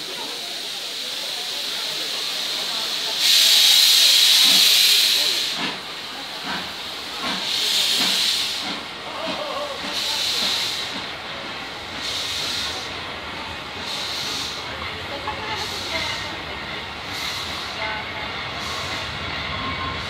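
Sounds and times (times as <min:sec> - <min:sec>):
steam hissing: 0:00.0 - 0:20.0.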